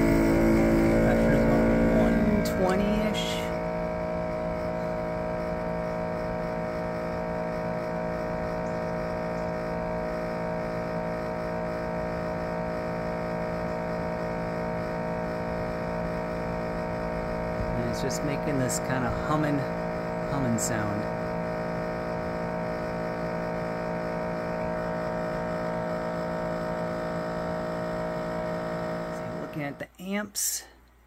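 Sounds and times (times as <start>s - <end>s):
compressor humming: 0.0s - 31.0s.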